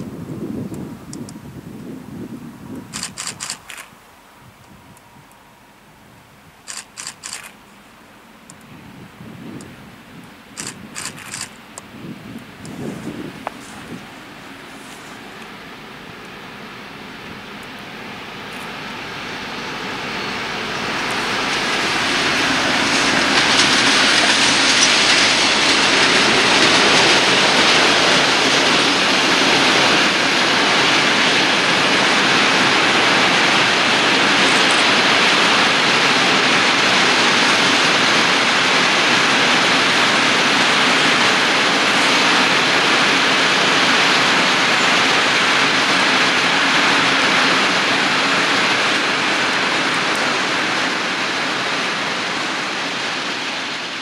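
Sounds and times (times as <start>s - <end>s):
freight train wheels rolling on track: 0.0s - 5.9s, 6.5s - 54.0s.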